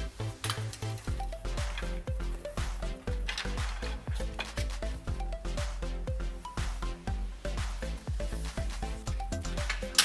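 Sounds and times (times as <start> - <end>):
continuous bass: 0.0 - 10.0.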